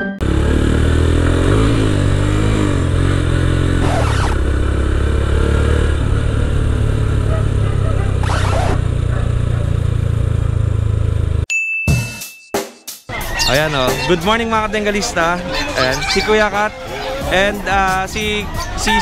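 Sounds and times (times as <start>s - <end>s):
motorcycle engine running: 0.2s - 11.5s, 13.1s - 19.0s.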